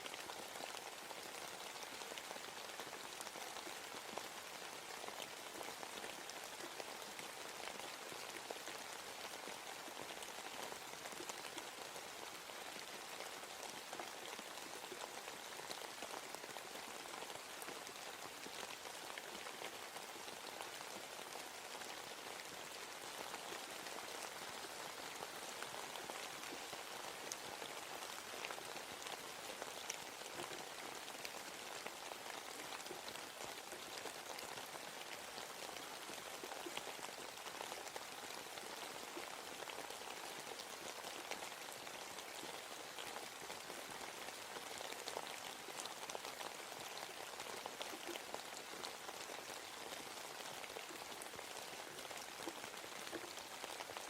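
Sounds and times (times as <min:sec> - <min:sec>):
raindrops pattering on leaves: 0:00.0 - 0:54.0
steady rain hiss: 0:00.0 - 0:54.0.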